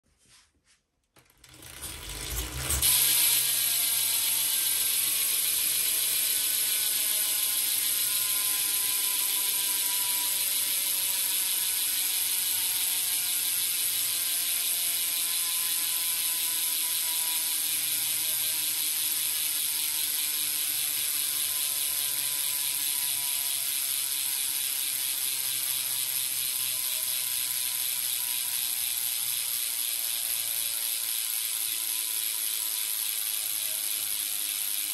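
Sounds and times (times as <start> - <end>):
bicycle hub freewheel buzzing: 1.2 - 34.9.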